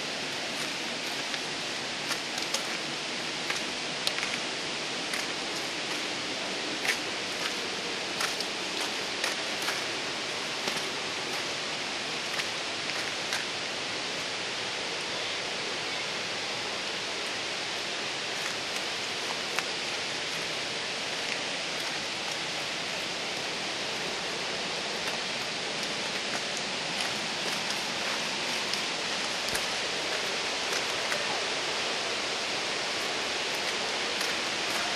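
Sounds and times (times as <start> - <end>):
falling water hiss: 0.0 - 34.9.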